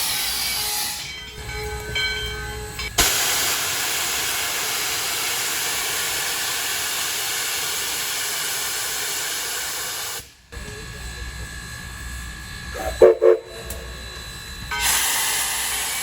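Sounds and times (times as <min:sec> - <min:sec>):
steam locomotive venting steam: 0:00.0 - 0:16.0.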